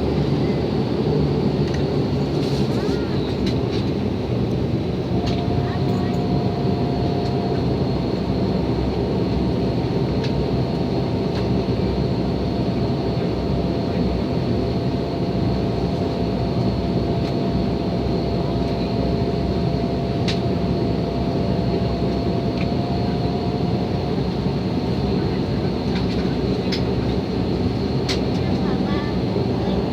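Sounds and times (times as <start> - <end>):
airliner engines idling: 0.0 - 29.9.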